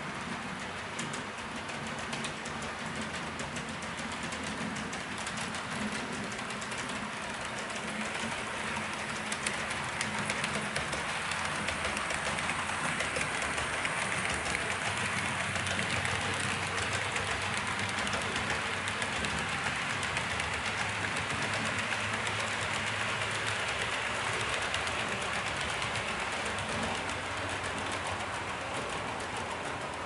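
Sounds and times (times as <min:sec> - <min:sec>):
train rumbling along track: 0:00.0 - 0:30.0
wheels clicking: 0:00.0 - 0:30.0.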